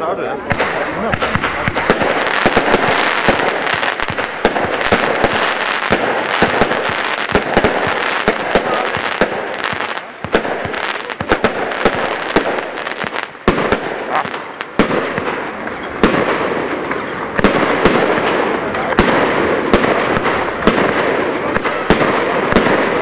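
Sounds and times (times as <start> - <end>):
fireworks popping and crackling: 0.0 - 23.0.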